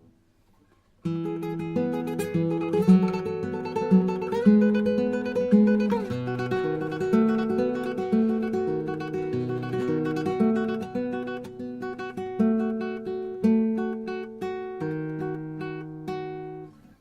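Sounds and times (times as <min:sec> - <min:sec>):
classical guitar melody: 0:01.0 - 0:17.0.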